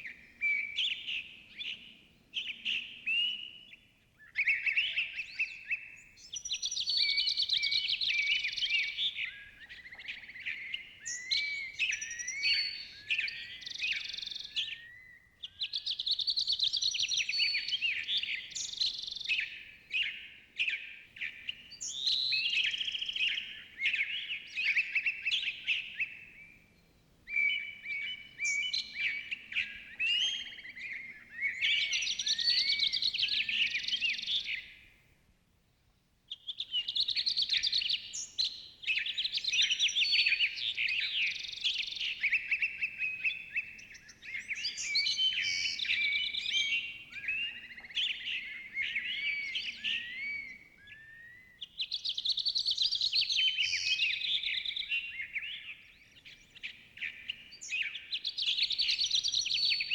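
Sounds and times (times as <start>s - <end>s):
small birds chirping: 0.0s - 35.0s, 35.8s - 59.9s.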